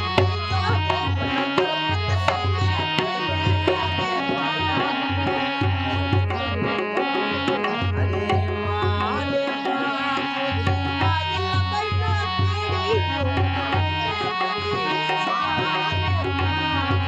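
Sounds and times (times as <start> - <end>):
hand drum rhythm: 0.0 - 17.0
sustained melodic lines: 0.0 - 17.0.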